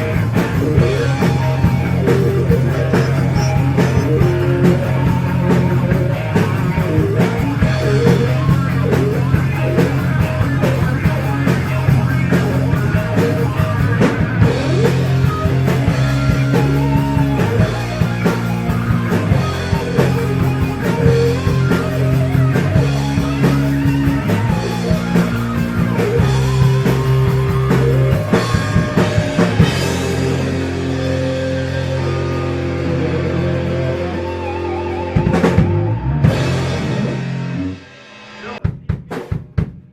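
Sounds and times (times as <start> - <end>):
heavy metal band playing: 0.0 - 39.1.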